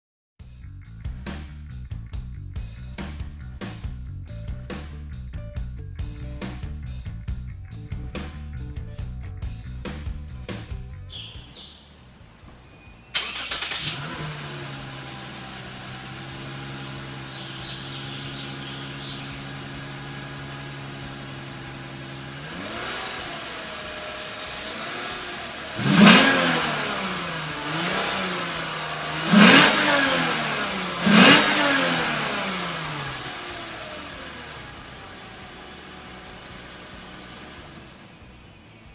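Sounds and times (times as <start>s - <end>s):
car engine idling and revving: 0.4s - 38.9s.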